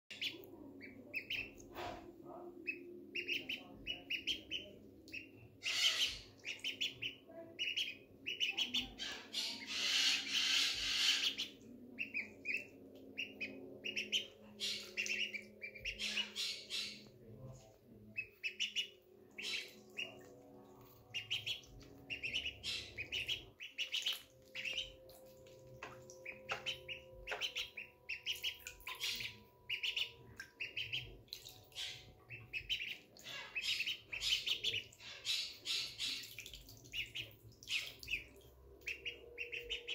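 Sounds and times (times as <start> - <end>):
ducklings peeping: 0.1 - 39.9.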